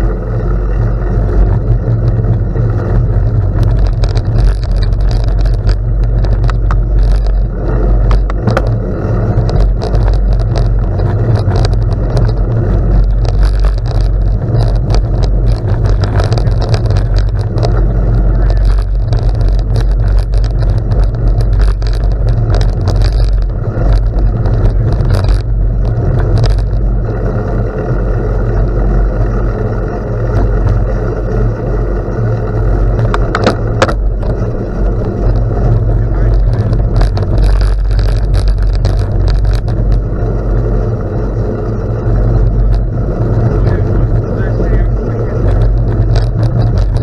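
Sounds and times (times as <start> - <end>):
tyres crunching over gravel: 0.0 - 47.0
wind buffeting microphone: 0.0 - 47.0.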